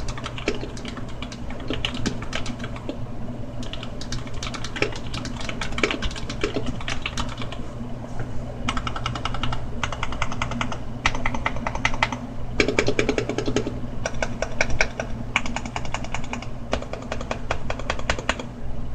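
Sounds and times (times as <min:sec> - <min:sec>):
mechanical keyboard typing: 0:00.0 - 0:03.0, 0:03.6 - 0:07.6, 0:08.7 - 0:18.4
low steady hum: 0:00.0 - 0:18.9.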